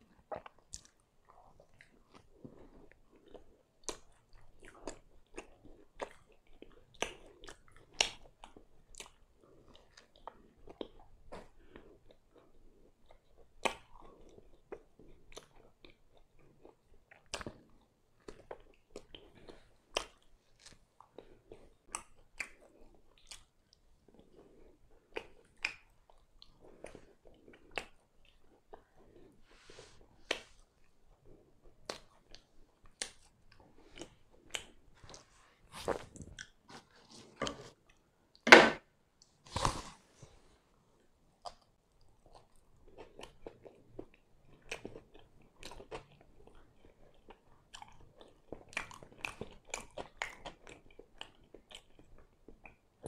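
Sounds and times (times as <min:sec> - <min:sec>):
person chewing food: 0:00.0 - 0:38.4, 0:39.2 - 0:53.0.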